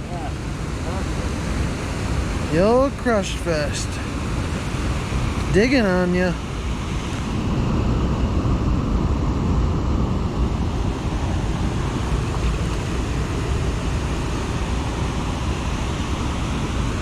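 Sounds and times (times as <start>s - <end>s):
whitewater roaring: 0.0s - 17.0s.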